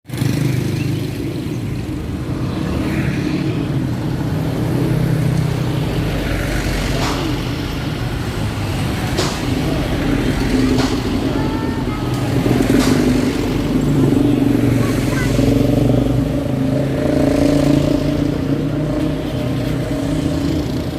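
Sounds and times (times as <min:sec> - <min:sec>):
vehicle engine humming: 0:00.1 - 0:20.9.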